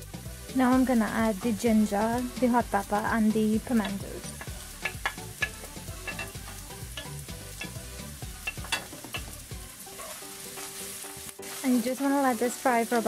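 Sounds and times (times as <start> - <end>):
carrots sizzling in hot oil: 0.0 - 13.0.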